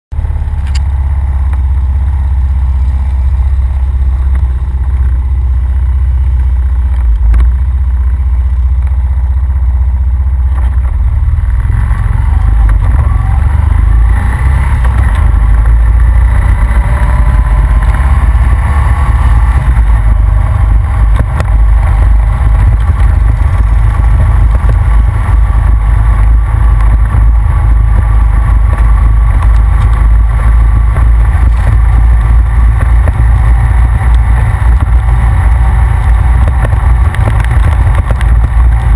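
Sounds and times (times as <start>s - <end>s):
quad engine running: 0.1s - 38.9s
wind rumble on microphone: 0.4s - 38.9s.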